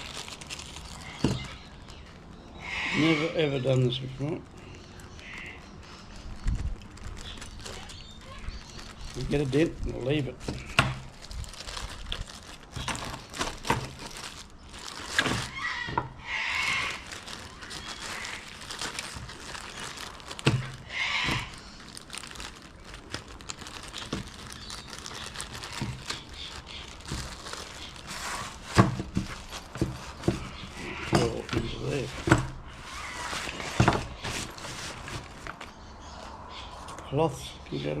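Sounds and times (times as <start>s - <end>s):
plastic packaging crinkling: 0.0s - 35.9s.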